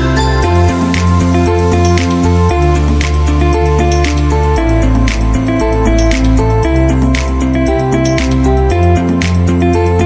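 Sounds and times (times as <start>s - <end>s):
calm electronic music: 0.0s - 10.0s.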